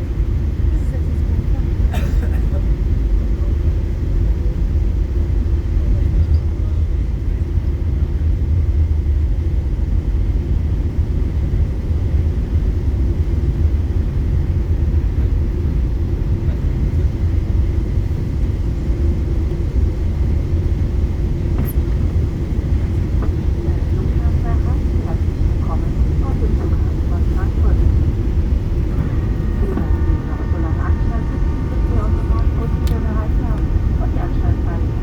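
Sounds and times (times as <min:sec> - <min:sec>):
airliner engine rumble: 0:00.0 - 0:35.0.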